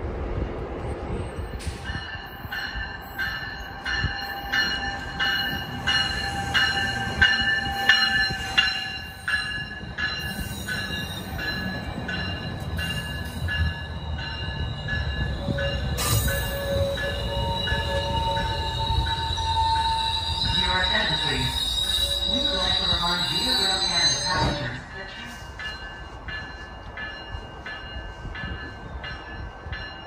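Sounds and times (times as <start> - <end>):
train coaches rumbling: 0.0 - 30.0
train bell ringing: 1.4 - 30.0.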